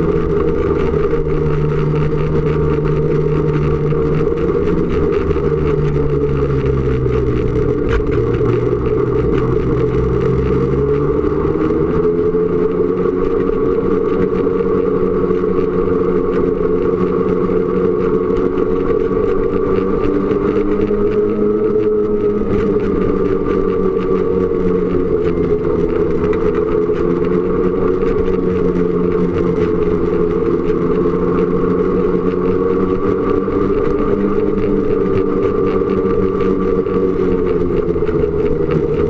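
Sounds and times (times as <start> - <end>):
snowmobile engine running: 0.0 - 39.0.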